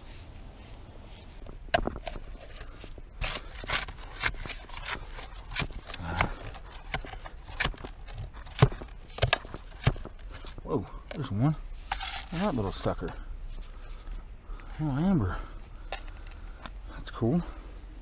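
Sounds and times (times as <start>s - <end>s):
scraping in dirt and debris: 0.0s - 16.8s.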